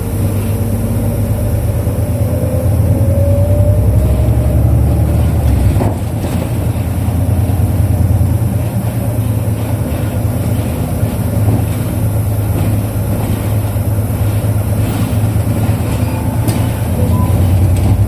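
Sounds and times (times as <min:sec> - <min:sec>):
bus diesel engine drone: 0:00.0 - 0:18.0
road noise: 0:00.0 - 0:18.0.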